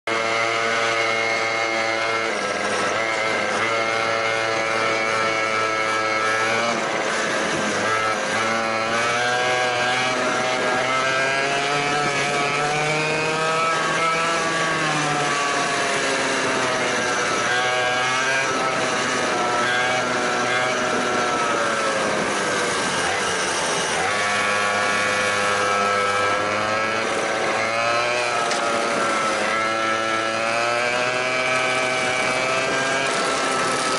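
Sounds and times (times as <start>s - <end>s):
kart engine revving: 0.1s - 33.9s.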